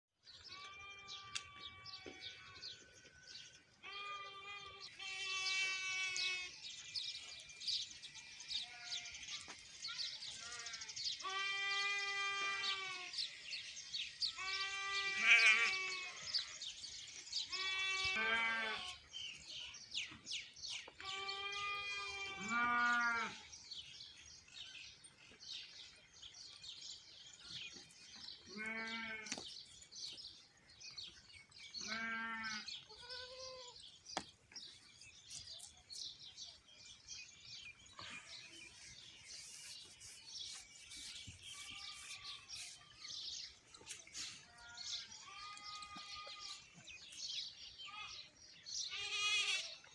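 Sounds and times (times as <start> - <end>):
birds chirping: 0.2 - 49.9
farm animal bleating: 0.3 - 49.9.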